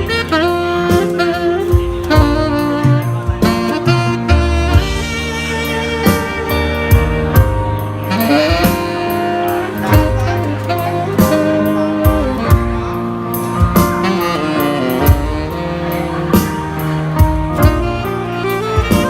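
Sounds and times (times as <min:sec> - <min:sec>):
pop band instrumental: 0:00.0 - 0:19.0.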